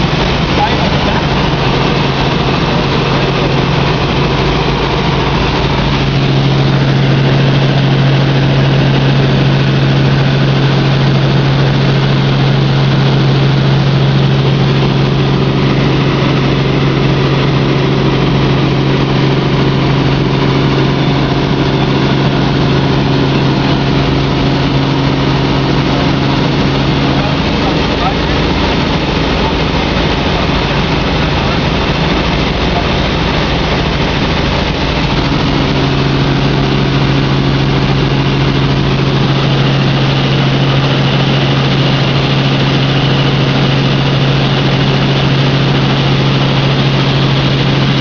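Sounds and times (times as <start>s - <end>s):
helicopter engine and rotor drone: 0.0s - 48.0s.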